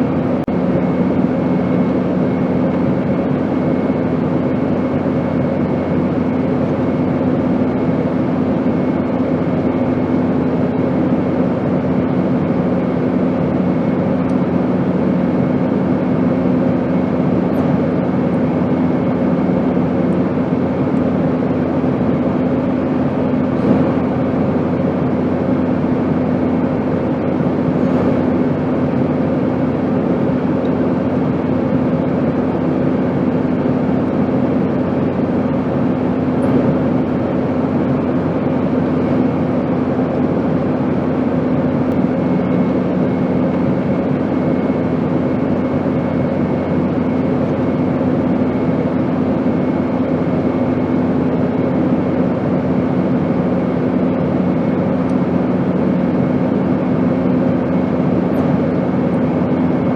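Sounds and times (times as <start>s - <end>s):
airplane drone: 0.0s - 59.9s
lower hum: 0.0s - 59.9s.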